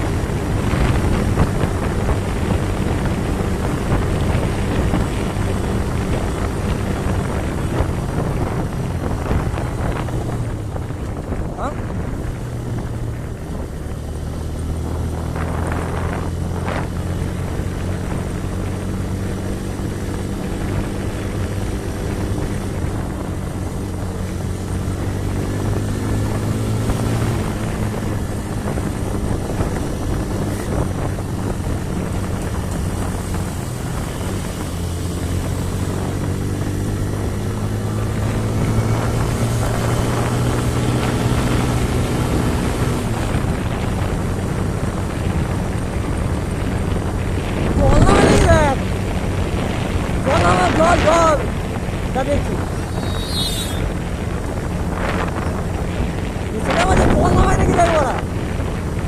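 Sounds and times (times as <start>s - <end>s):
engine droning: 0.0s - 59.0s.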